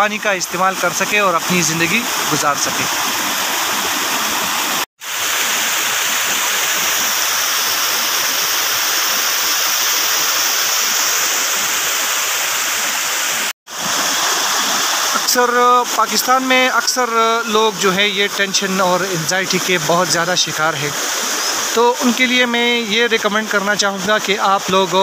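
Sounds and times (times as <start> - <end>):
river water rushing: 0.2 - 25.0.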